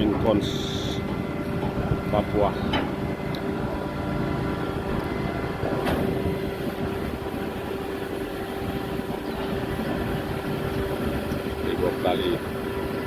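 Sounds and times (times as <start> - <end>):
constant hum tone: 0.0 - 13.0
ship machinery rumbling: 0.0 - 13.0.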